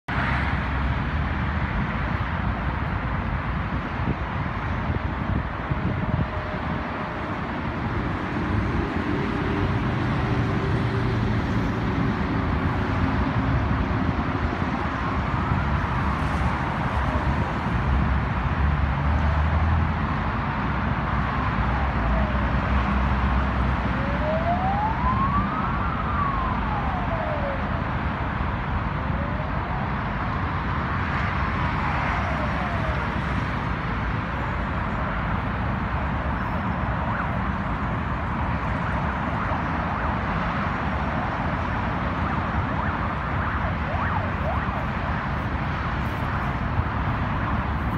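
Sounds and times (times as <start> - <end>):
highway traffic noise: 0.0 - 47.9
emergency siren wailing: 4.8 - 17.7, 21.1 - 47.9.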